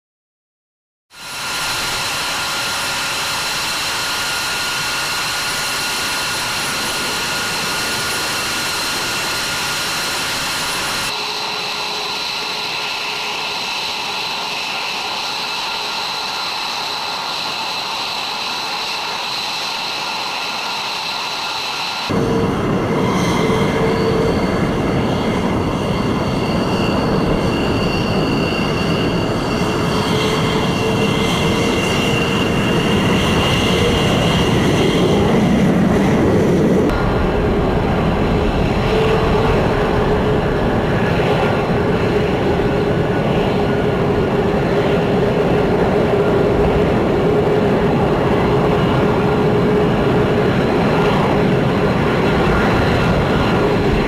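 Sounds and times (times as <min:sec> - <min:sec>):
jet engines roaring: 0:01.1 - 0:54.0
high engine whine: 0:01.2 - 0:54.0.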